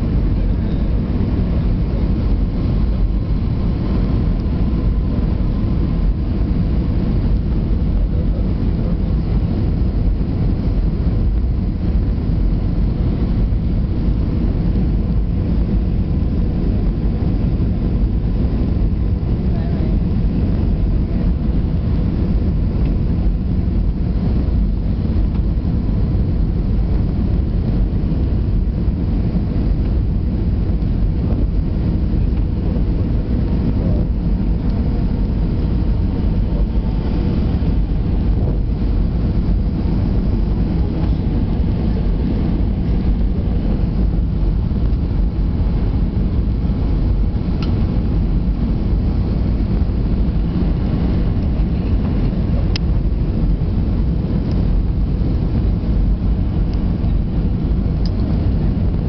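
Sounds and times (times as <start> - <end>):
airliner cabin rumble: 0.0 - 59.0
faint steady hum: 0.0 - 59.0.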